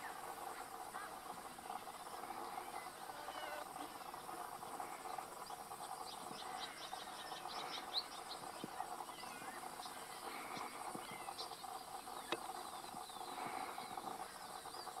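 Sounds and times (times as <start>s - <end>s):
birds chirping: 0.0s - 15.0s
insect chorus: 0.0s - 15.0s.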